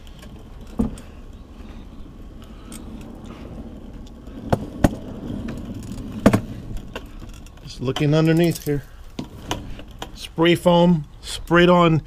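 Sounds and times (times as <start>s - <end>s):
creeper rolling on pavement: 0.0s - 12.0s.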